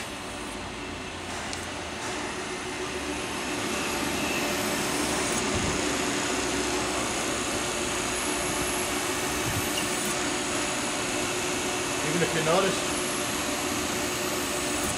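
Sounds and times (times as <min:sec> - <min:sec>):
idling machine hum and hiss: 0:00.0 - 0:14.9.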